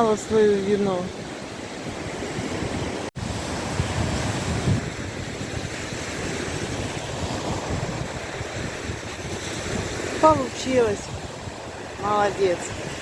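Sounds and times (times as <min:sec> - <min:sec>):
sea waves washing ashore: 0:00.0 - 0:13.0
wind buffeting microphone: 0:00.0 - 0:13.0.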